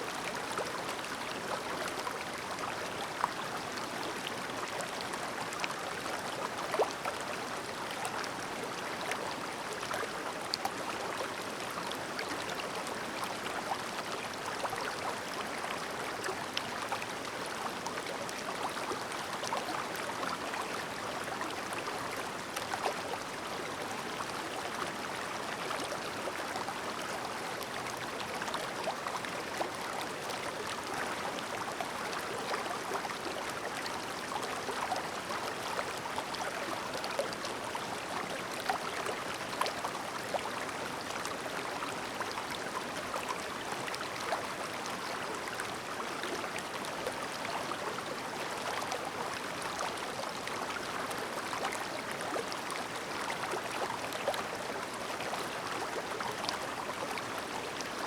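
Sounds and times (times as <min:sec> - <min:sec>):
stream babbling over rocks: 0:00.0 - 0:58.0
water splashes and trickles: 0:00.0 - 0:58.0.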